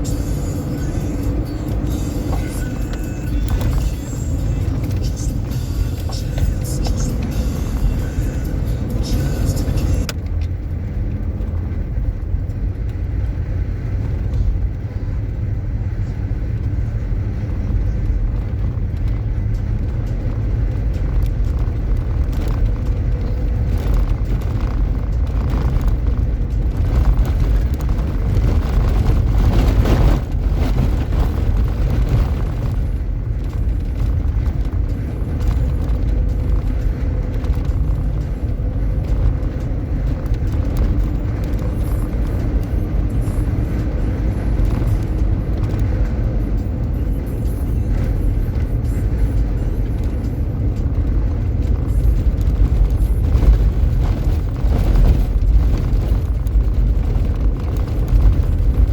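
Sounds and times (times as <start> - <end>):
vehicle driving rumble: 0.0 - 58.9.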